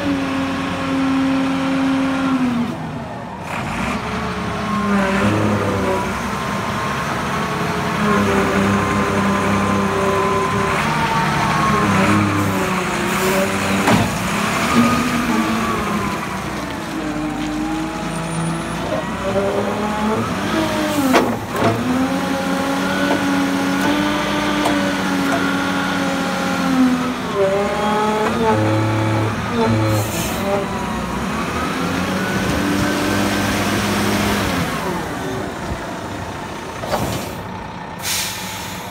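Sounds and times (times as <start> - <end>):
forklift engine running: 0.0 - 38.9.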